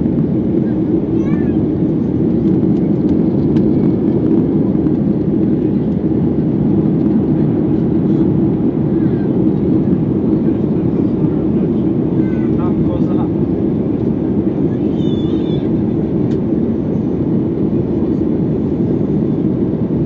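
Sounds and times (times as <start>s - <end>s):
airflow noise: 0.0s - 20.0s
jet engine drone in cabin: 0.0s - 20.0s.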